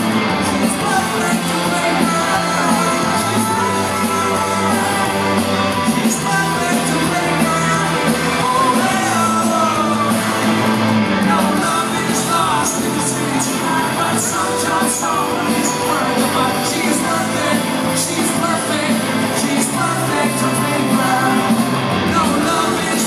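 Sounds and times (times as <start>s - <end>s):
bass guitar: 0.0s - 23.0s
drums: 0.0s - 23.0s
electric guitars: 0.0s - 23.0s
person singing: 0.0s - 23.0s.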